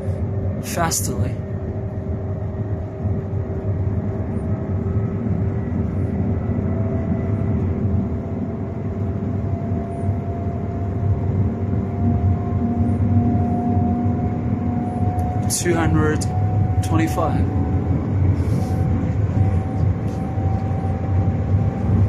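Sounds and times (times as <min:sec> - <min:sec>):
rising whine: 0:00.0 - 0:22.0
train rushing rumble: 0:00.0 - 0:22.0.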